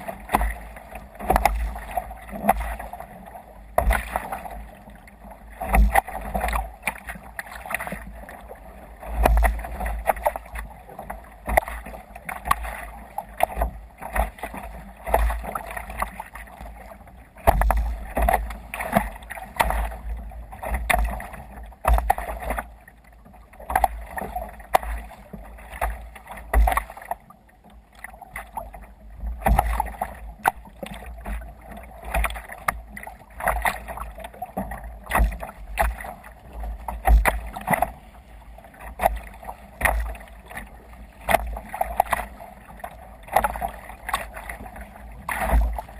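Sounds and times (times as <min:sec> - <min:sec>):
water slapping against kayak hull: 0:00.0 - 0:45.9.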